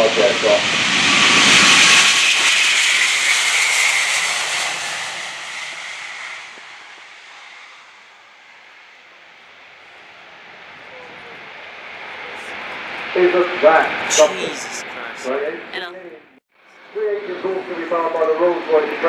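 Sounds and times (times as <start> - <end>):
jet plane flying past: 0.0 - 15.7, 16.7 - 19.0.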